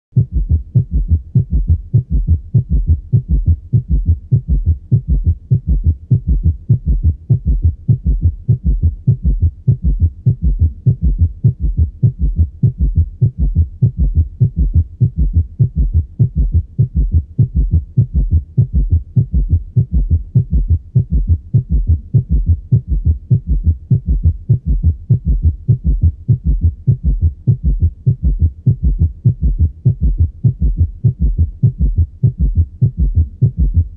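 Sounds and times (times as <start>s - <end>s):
heart sounds through stethoscope: 0.2s - 33.9s.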